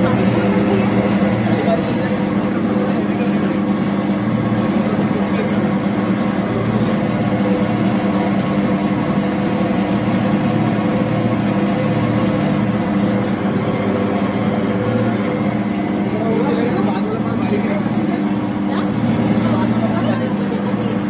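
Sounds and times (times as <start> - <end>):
grinder machine humming: 0.0 - 21.0.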